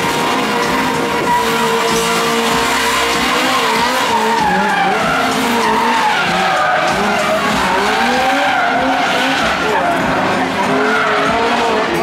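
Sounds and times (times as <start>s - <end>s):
race car engine revving: 0.0s - 12.0s
tyres squealing and skidding: 0.0s - 12.0s.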